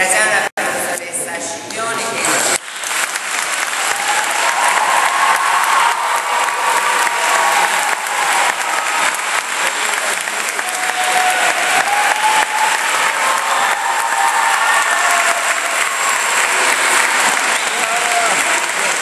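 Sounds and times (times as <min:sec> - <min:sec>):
audience applauding: 0:02.5 - 0:19.0.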